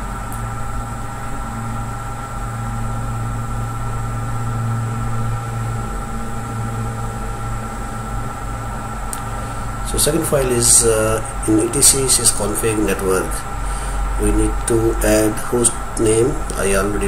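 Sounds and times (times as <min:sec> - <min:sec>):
faint high whining tones: 0:00.0 - 0:17.0
low electrical hum with hiss: 0:00.0 - 0:17.0.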